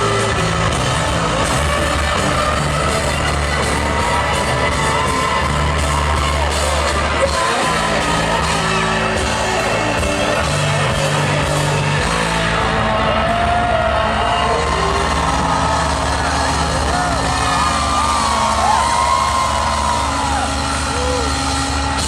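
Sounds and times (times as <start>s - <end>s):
crowd whooping: 0.0s - 22.0s
heavy bass line: 0.0s - 22.0s
live rock band playing: 0.0s - 22.0s.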